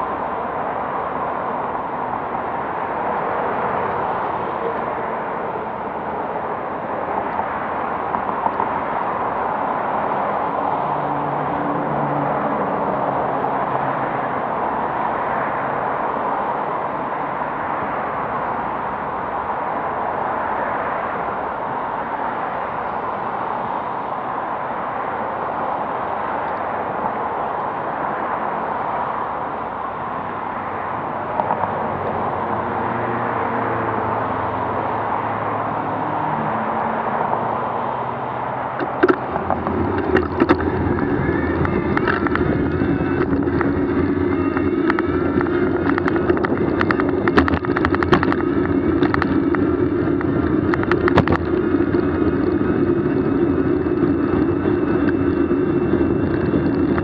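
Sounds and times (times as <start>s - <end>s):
droning hum: 0.0s - 57.0s
road and wind noise: 0.0s - 57.0s.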